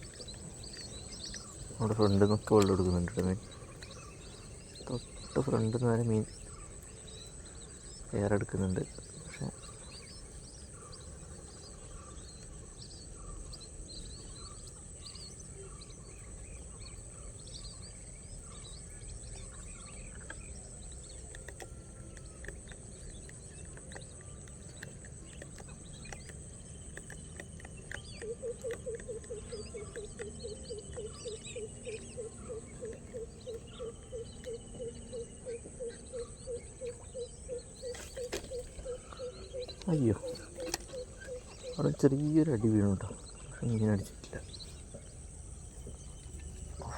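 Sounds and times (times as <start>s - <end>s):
high insect drone: 0.0s - 46.9s
rapid low repeated calls: 0.0s - 46.9s.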